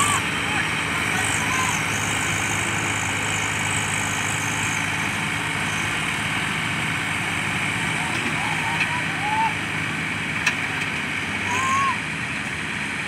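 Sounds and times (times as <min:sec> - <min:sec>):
tractor diesel engines under load: 0:00.0 - 0:13.0.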